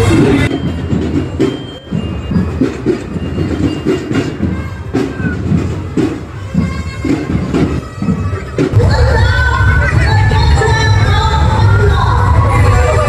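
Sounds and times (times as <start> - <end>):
fairground ride clattering on track: 0.0 - 13.0.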